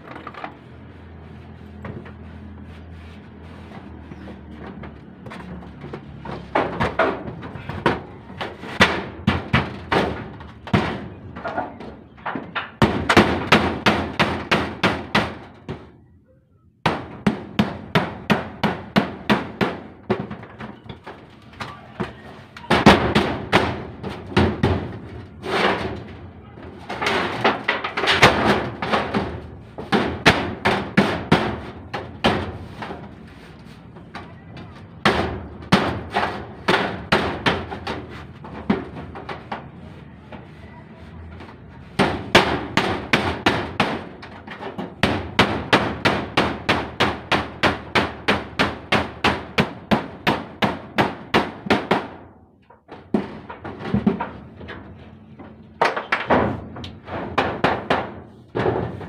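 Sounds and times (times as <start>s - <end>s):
hammer nailing metal roofing: 3.6s - 16.1s, 16.8s - 40.5s, 41.3s - 59.0s.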